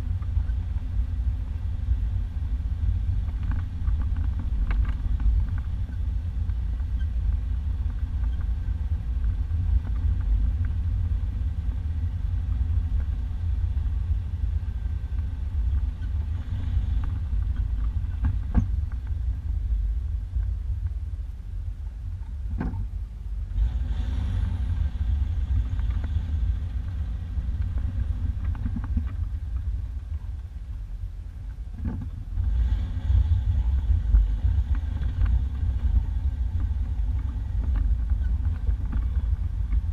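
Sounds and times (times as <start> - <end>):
engine and tyres rumbling: 0.0 - 39.9.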